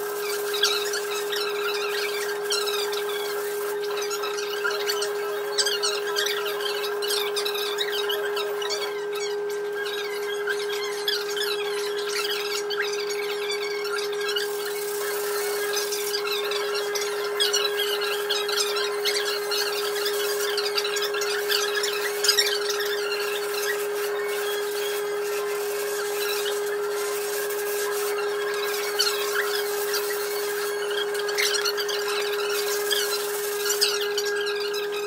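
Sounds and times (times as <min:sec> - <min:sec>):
squeaky tool chirps and scrapes: 0:00.0 - 0:35.0
steady hum: 0:00.0 - 0:35.0.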